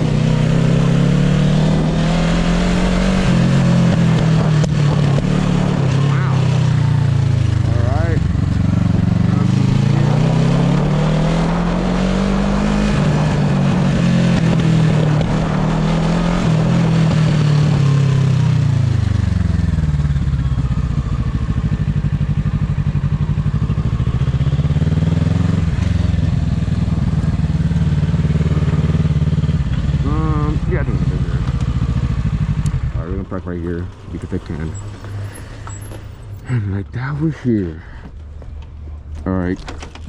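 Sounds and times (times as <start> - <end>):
motorcycle engine revving: 0.0 - 36.5.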